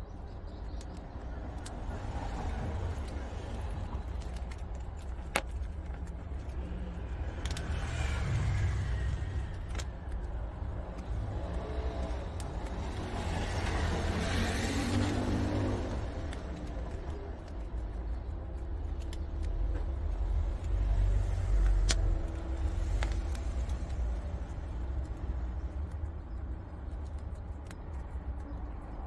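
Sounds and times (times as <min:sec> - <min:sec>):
animals chewing crunchy snacks: 0:00.0 - 0:29.0
low rumble: 0:01.7 - 0:27.2.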